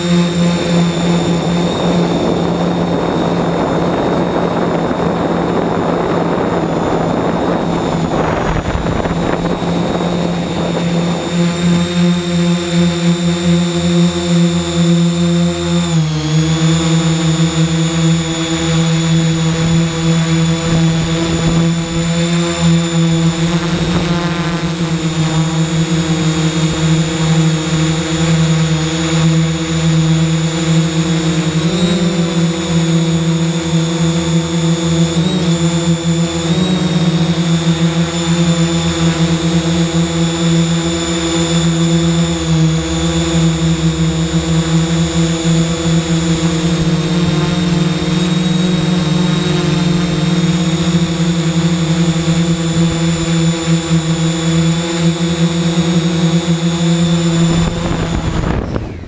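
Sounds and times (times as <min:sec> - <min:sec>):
drone motors humming: 0:00.0 - 0:59.0.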